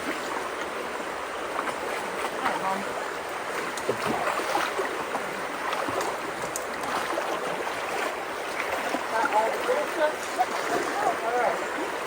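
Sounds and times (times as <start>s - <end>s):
creek water rushing: 0.0s - 12.0s
small water splashes: 0.0s - 12.0s.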